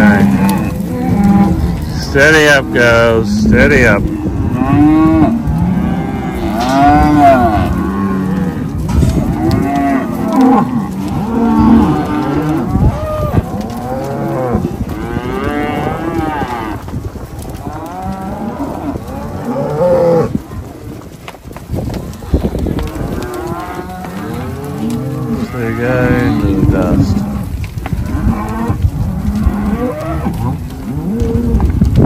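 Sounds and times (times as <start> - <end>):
cows and calves bawling: 0.0 - 32.0.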